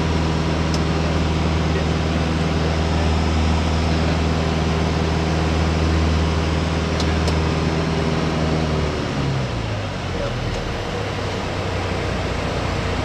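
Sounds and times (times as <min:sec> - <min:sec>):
aircraft engine and propeller: 0:00.0 - 0:13.0.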